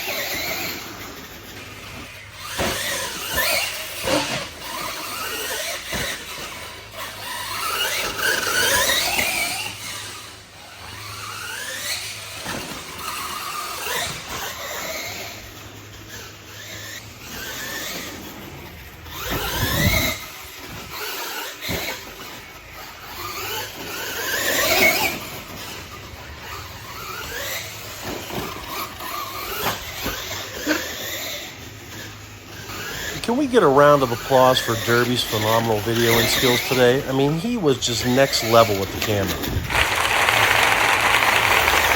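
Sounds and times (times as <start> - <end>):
electric motor whining: 0.0 - 41.9.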